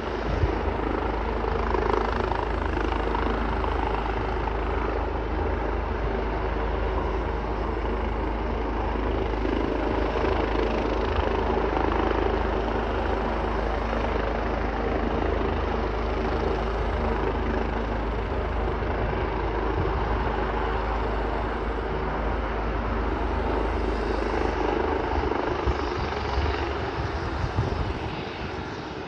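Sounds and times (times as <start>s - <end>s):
helicopter engine and rotor: 0.0s - 29.0s.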